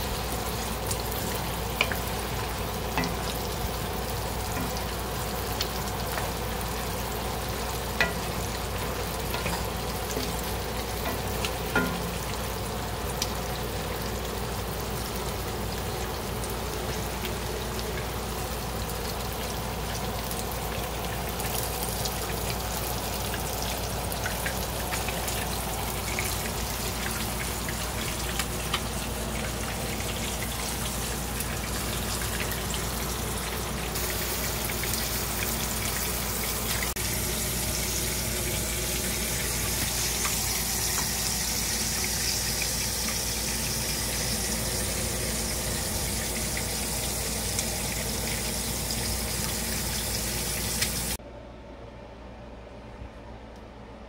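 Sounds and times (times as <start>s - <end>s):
food sizzling in a skillet: 0.0s - 51.2s.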